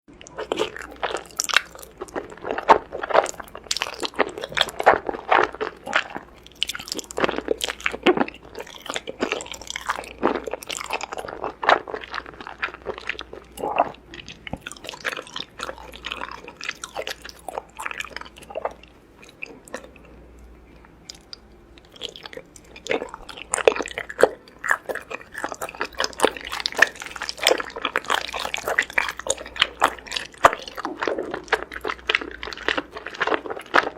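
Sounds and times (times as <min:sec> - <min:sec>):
person chewing noodles: 0:00.2 - 0:33.9.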